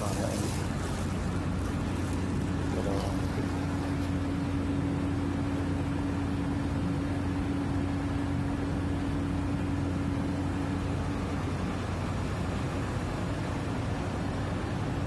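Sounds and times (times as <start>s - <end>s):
ship machinery hum: 0.0s - 14.8s.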